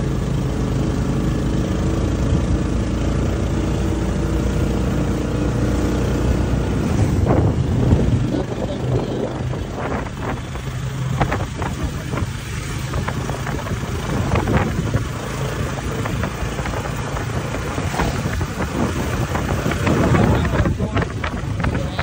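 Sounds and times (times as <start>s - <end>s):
motorcycle engine running: 0.0s - 22.0s
wind buffeting microphone: 4.2s - 22.0s.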